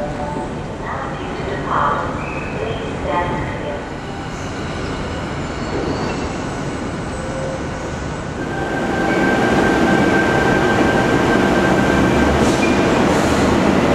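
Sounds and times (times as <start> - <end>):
train rumbling past: 0.0 - 13.9.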